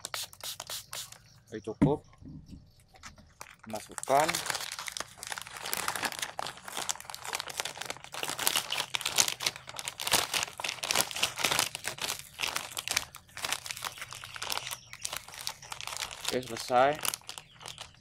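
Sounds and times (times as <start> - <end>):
plastic bag crinkling: 3.2 - 18.0.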